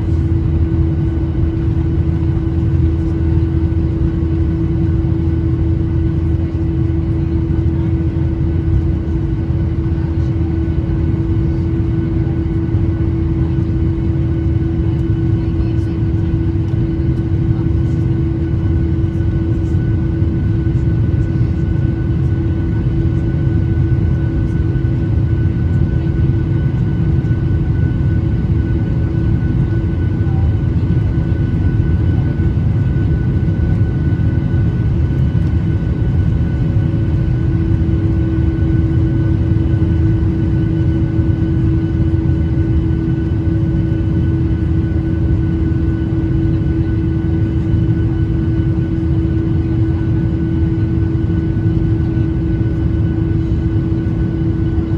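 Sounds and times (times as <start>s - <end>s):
jet engines low rumble: 0.0s - 54.9s.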